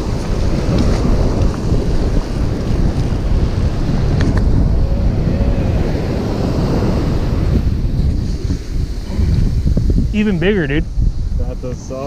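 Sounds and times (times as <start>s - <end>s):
surf breaking: 0.0s - 11.2s
wind buffeting microphone: 0.0s - 12.0s.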